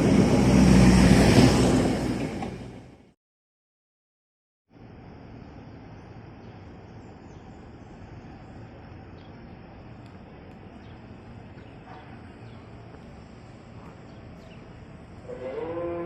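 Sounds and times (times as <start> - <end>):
railway station background noise: 0.0 - 3.1, 5.3 - 15.7.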